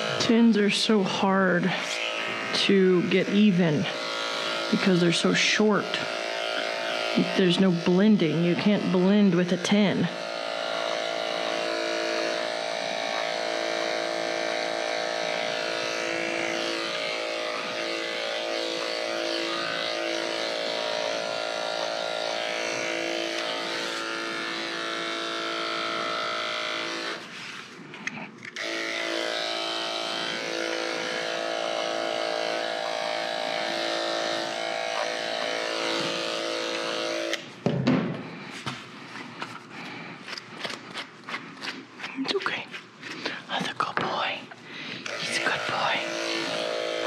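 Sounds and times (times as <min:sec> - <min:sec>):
electric clippers humming: 0:00.0 - 0:47.0.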